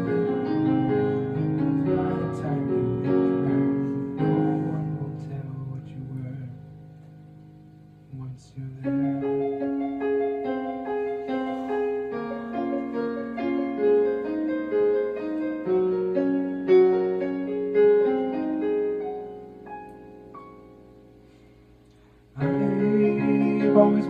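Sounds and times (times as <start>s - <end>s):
slow piano melody: 0.0s - 24.0s.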